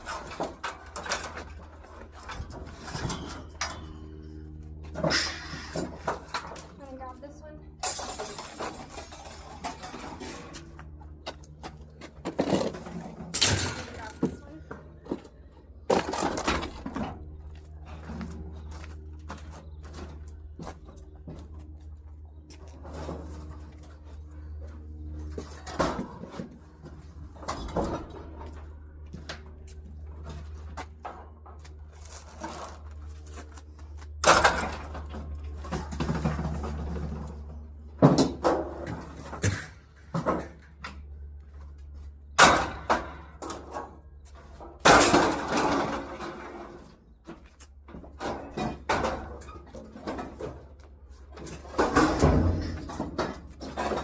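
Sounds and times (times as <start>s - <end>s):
scrap metal clanking and clattering: 0.0s - 21.6s, 22.6s - 28.8s, 30.1s - 41.2s, 42.3s - 54.0s
steady low hum: 0.0s - 54.0s.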